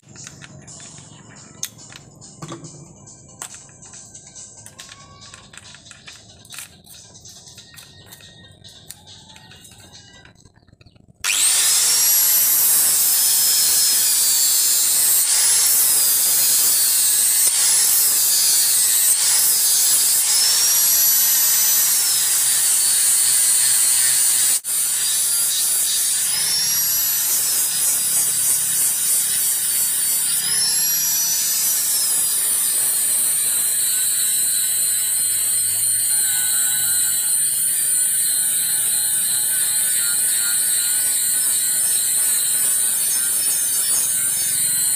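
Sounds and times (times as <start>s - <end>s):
angle grinder grinding steel: 3.0s - 44.9s.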